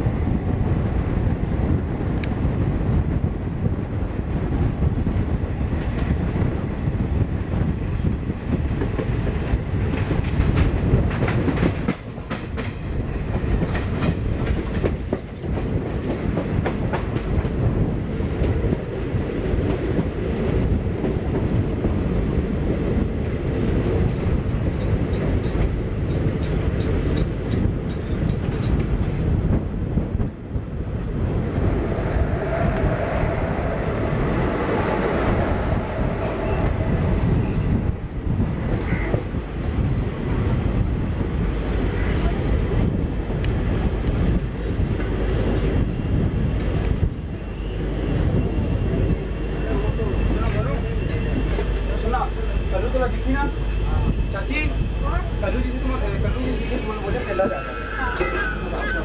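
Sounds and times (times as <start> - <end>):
train wheels rumbling on rails: 0.0 - 59.0
clickety-clack over rail joints: 4.4 - 31.3, 35.6 - 47.4, 48.0 - 59.0
sharp train clattering: 8.0 - 59.0.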